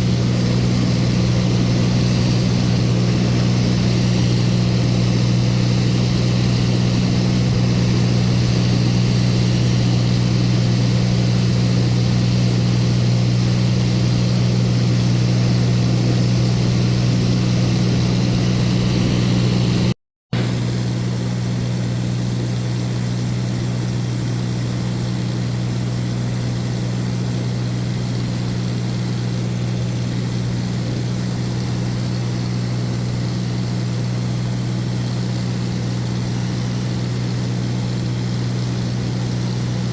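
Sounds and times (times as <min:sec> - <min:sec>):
propeller aircraft cabin hum: 0:00.0 - 0:39.9.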